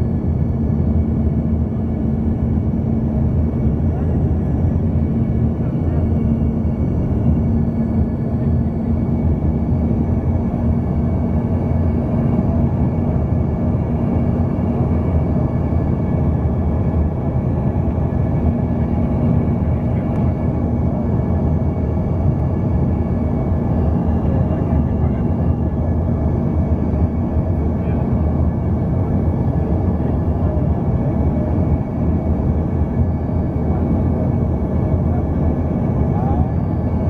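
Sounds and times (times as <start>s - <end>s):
jet cabin rumble: 0.0s - 37.0s.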